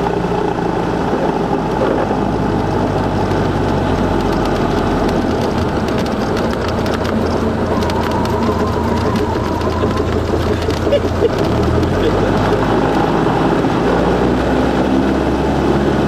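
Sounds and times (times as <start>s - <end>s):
propeller aircraft engine: 0.0s - 16.0s.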